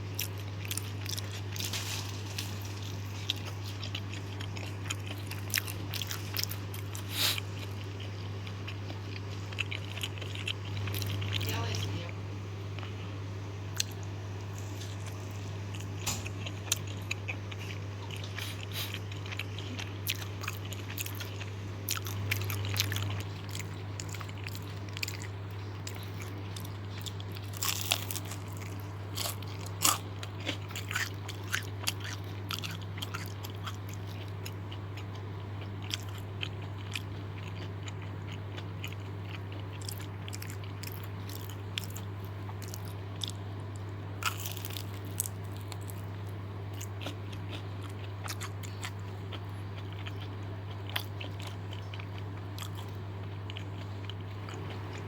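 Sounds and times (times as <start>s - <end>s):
crunching crispy snacks: 0.1s - 12.0s, 13.7s - 55.0s.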